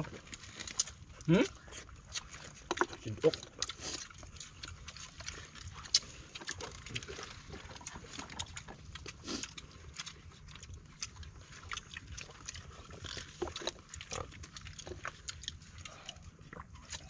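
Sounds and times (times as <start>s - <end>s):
people chewing and slurping: 0.0s - 17.0s.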